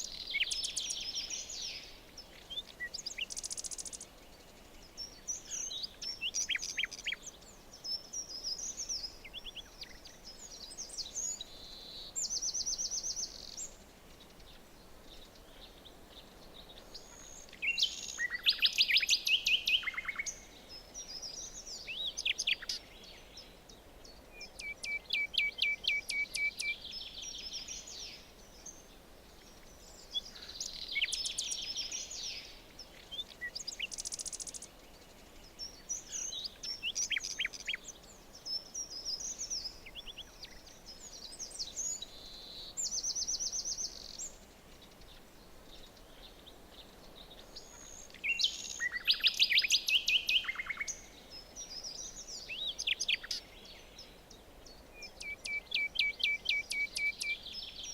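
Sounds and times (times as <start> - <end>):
low steady background hiss: 0.0 - 57.9
songbirds singing: 0.0 - 57.9.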